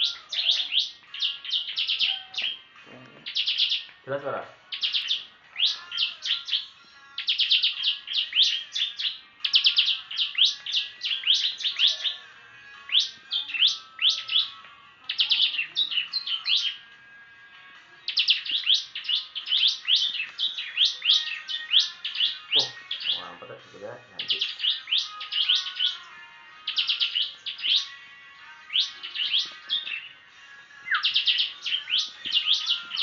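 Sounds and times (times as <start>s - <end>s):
bird singing high chirps: 0.0s - 16.9s, 18.0s - 33.0s.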